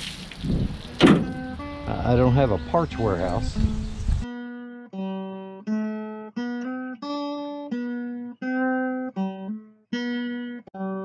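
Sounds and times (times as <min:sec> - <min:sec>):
acoustic guitar plucked melody: 0:00.0 - 0:11.0.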